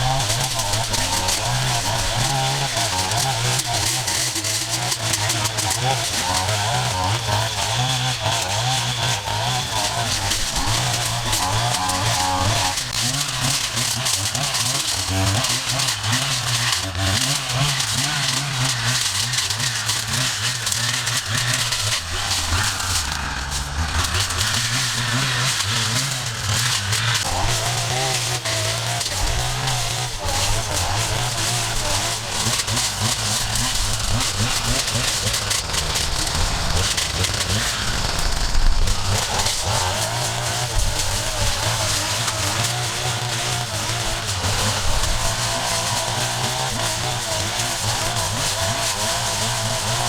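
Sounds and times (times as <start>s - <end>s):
gas engine running: 0.0s - 50.0s.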